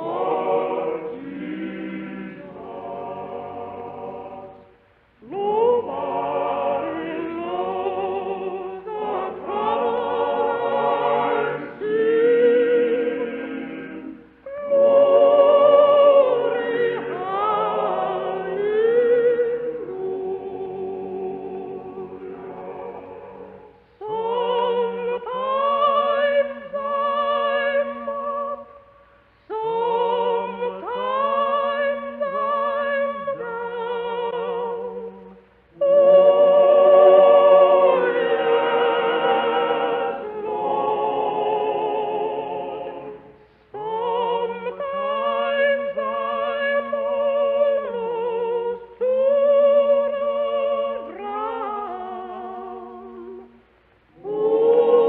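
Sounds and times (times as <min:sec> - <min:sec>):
soprano singing a spiritual: 0:00.0 - 0:28.9, 0:29.5 - 0:55.0.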